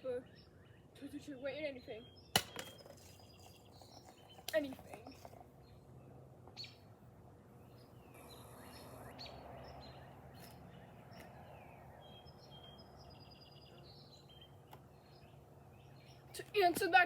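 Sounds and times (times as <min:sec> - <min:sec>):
bird chirps: 0:00.0 - 0:02.4, 0:03.0 - 0:05.9, 0:06.5 - 0:16.3.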